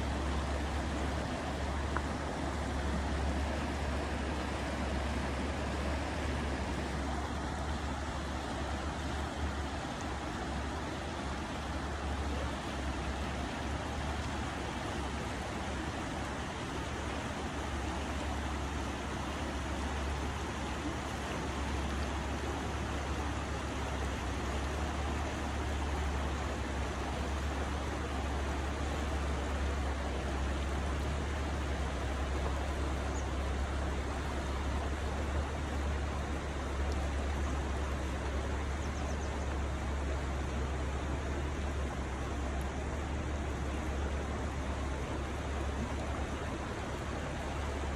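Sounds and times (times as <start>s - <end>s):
low water rumble: 0.0s - 47.9s
water rushing over rocks: 0.0s - 47.9s.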